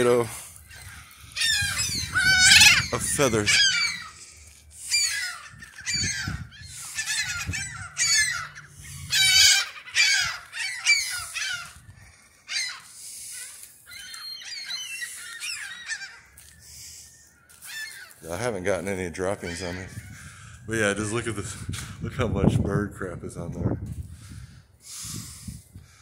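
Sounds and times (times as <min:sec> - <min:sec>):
gulls calling: 0:00.0 - 0:21.7.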